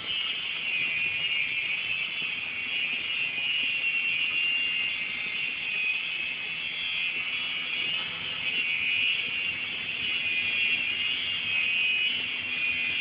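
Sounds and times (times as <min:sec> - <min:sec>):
model helicopter motor whine: 0:00.0 - 0:13.0.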